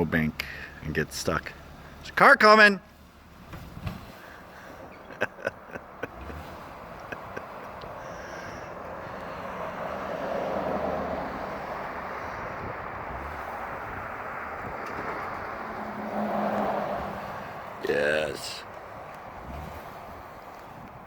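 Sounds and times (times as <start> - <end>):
car driving by: 2.9 - 21.0.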